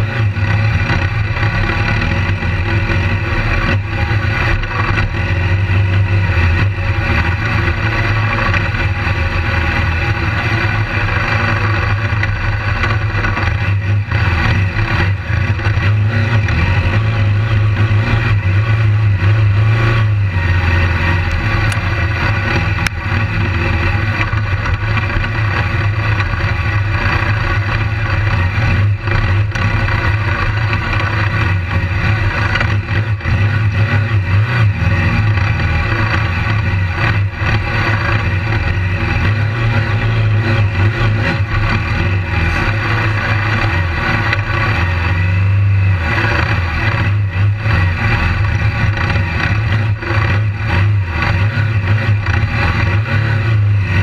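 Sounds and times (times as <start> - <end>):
motorcycle engine running hard: 0.0 - 54.0.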